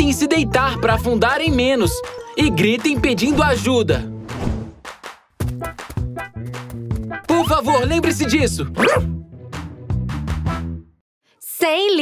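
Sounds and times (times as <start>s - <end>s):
cartoon background music: 0.0s - 4.6s, 5.4s - 10.8s.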